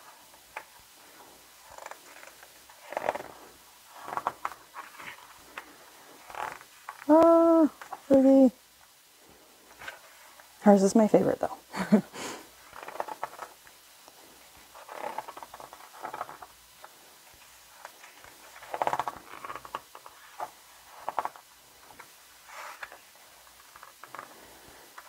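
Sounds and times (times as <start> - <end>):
book pages turning: 0.2 - 0.8, 1.4 - 8.2, 9.7 - 10.5, 12.5 - 25.0.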